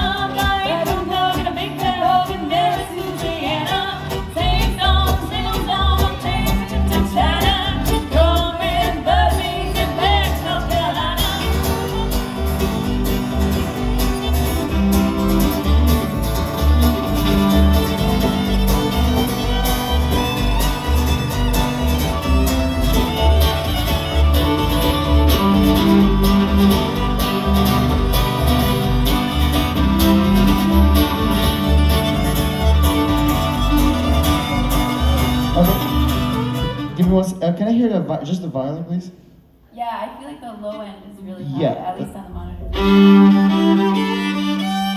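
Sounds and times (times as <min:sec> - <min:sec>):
guitar fiddle and bass playing: 0:00.0 - 0:37.6, 0:42.4 - 0:44.9.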